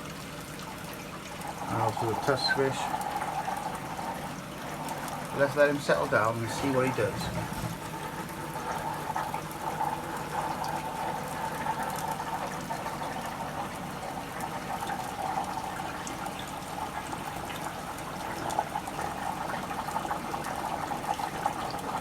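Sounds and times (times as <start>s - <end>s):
aquarium water trickling: 0.0s - 22.0s.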